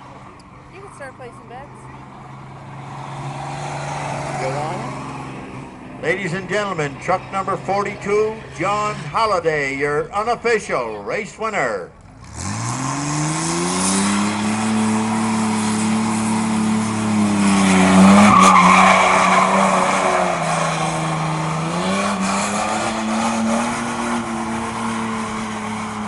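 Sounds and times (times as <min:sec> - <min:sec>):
truck engine revving: 0:00.7 - 0:09.9, 0:12.0 - 0:26.0.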